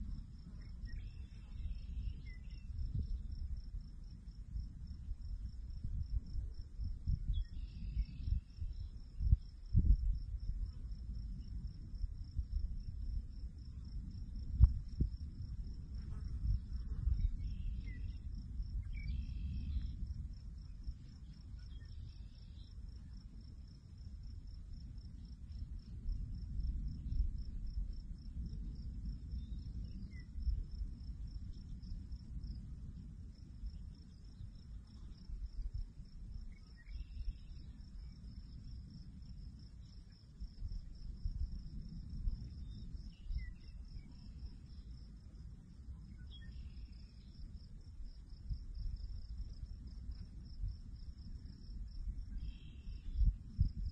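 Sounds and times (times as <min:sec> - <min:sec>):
high insect trill: 0:00.0 - 0:32.7, 0:33.3 - 0:53.9
low wind rumble: 0:00.0 - 0:53.9.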